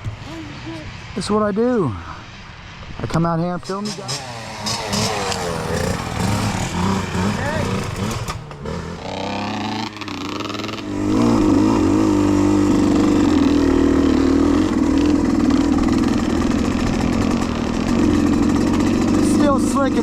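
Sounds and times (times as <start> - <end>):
dirt bike engine revving: 3.7 - 20.0.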